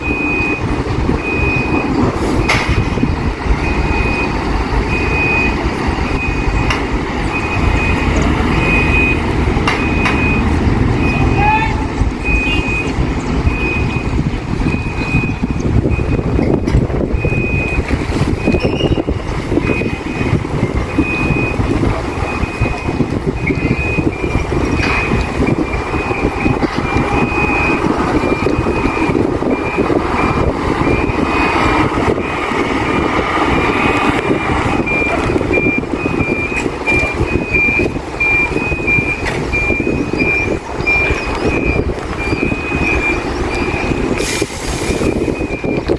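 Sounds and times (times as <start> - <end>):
truck engine running: 0.0 - 45.9
truck reversing alarm beeping: 0.0 - 45.9.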